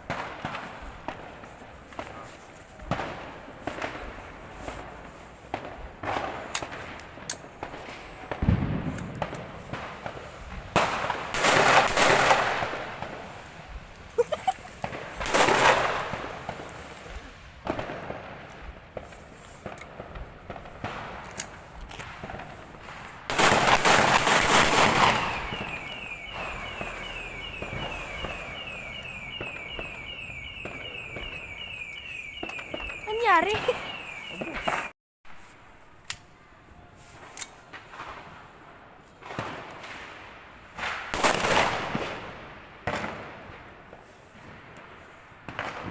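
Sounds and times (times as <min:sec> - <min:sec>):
firecracker crackling barrages: 0:00.0 - 0:45.9
fireworks popping: 0:00.0 - 0:45.9.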